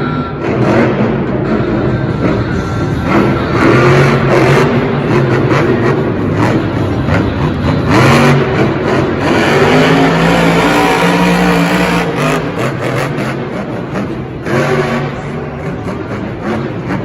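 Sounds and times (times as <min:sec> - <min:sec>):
truck engine revving hard: 0:00.2 - 0:17.0.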